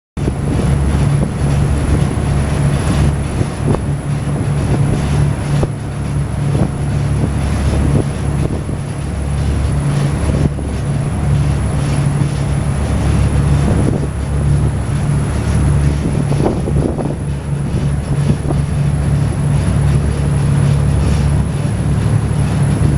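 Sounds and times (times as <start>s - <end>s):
boat engine droning: 0.2s - 22.9s.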